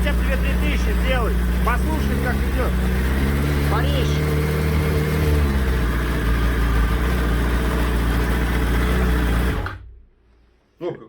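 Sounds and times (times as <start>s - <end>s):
motorcycle engine running at raised revs: 0.0s - 10.0s.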